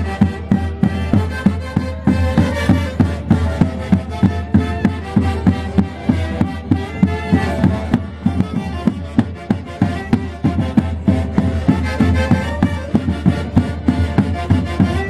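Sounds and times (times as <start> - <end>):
steady drum beat: 0.0 - 15.0
sustained melody instruments: 0.0 - 15.0.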